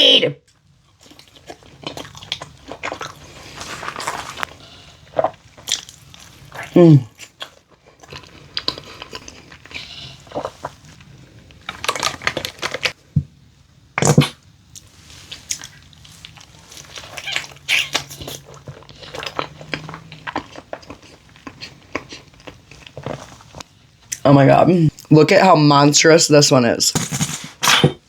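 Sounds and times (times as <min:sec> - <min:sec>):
faint low hum: 0:00.0 - 0:28.0
chewing and crunching food: 0:00.4 - 0:13.2, 0:14.0 - 0:24.2.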